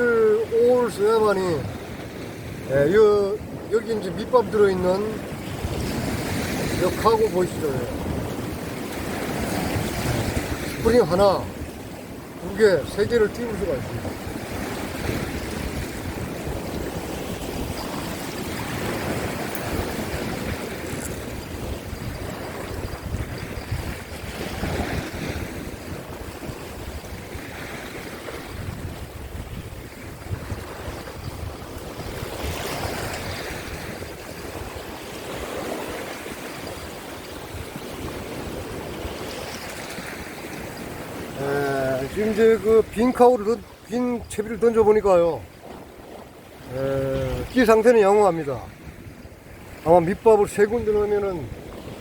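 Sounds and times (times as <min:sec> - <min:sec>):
sea surf washing over rocks: 0:00.0 - 0:52.0
wind buffeting microphone: 0:00.0 - 0:52.0.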